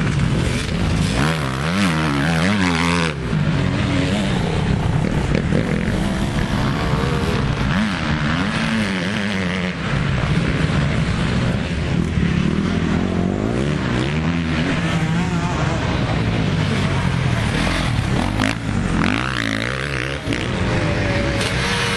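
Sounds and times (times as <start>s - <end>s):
dirt bike engines revving: 0.0s - 21.9s.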